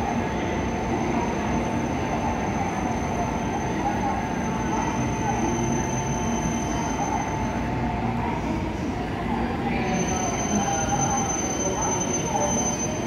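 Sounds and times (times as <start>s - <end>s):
station platform noise: 0.0s - 13.0s.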